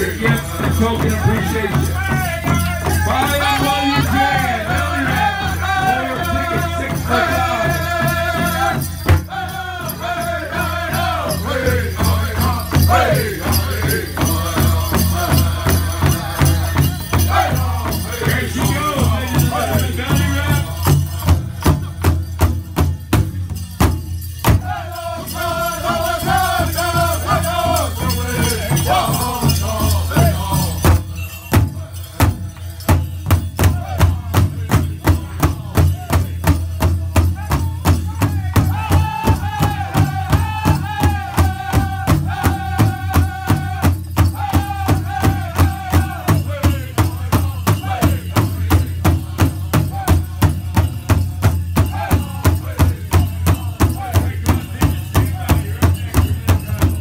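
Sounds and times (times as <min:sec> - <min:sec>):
group singing high: 0:00.0 - 0:21.8, 0:24.6 - 0:36.6, 0:37.4 - 0:57.0.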